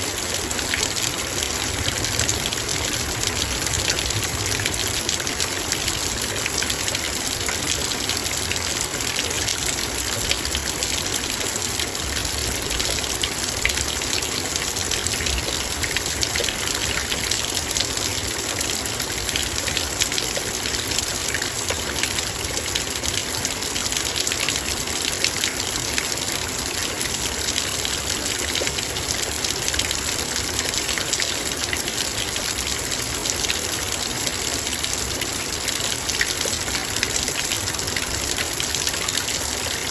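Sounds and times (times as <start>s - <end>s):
heavy rain on metal bowl: 0.0s - 39.9s.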